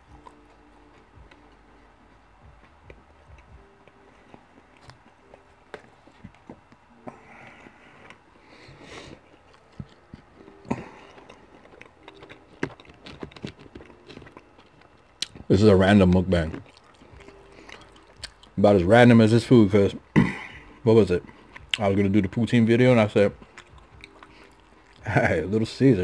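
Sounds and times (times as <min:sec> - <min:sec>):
person chewing food: 0:00.0 - 0:18.6, 0:20.0 - 0:22.0, 0:23.2 - 0:25.1.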